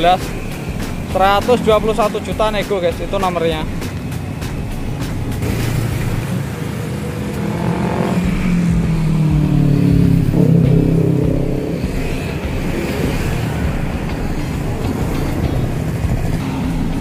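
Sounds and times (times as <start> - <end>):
steady traffic rumble: 0.0 - 17.0
vehicle engine passing by: 3.2 - 17.0.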